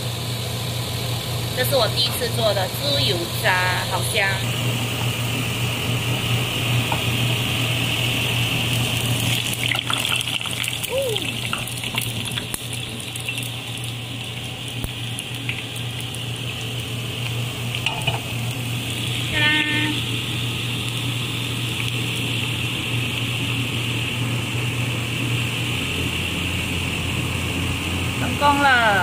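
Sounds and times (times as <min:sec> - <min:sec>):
lard sizzling: 0:00.0 - 0:29.0
steady low hum: 0:00.0 - 0:29.0.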